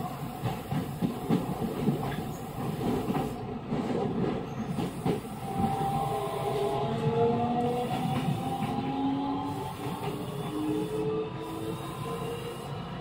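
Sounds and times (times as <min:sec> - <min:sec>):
train wheel and track rumble: 0:00.0 - 0:13.0.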